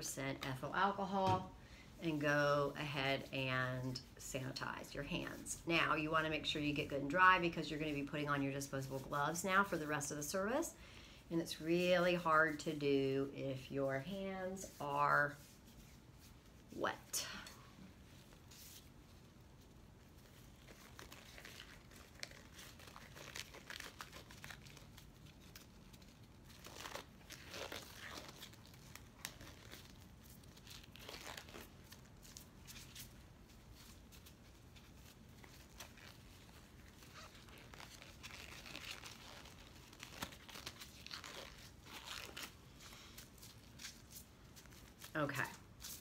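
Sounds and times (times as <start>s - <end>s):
gloves rustling and crinkling: 0.0s - 46.0s.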